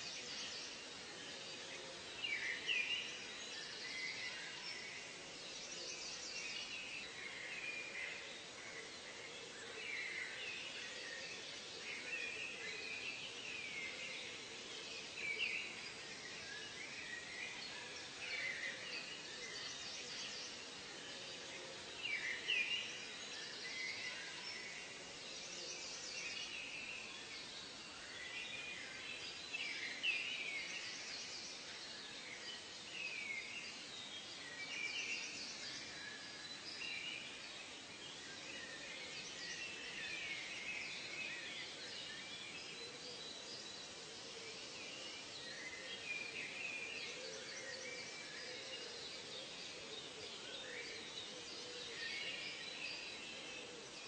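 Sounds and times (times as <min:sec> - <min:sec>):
faint background hiss: 0:00.0 - 0:54.0
wild birds chirping: 0:00.0 - 0:54.0.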